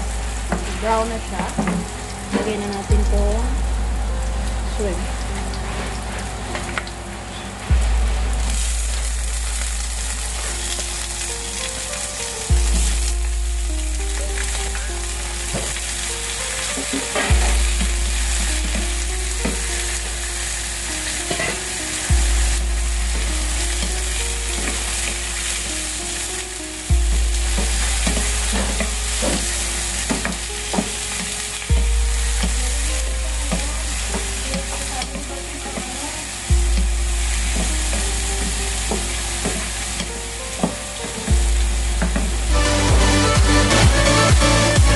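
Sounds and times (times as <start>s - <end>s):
quiet background music: 0.0s - 44.9s
shrimp sizzling in a pan: 0.0s - 44.9s.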